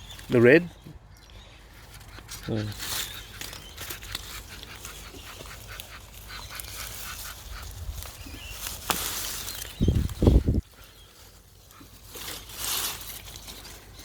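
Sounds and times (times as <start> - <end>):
leaves and soil rustling: 0.0 - 14.0.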